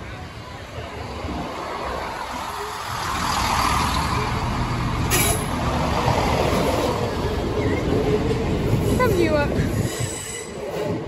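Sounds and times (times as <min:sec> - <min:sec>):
train rumbling over crossing: 0:00.0 - 0:11.0.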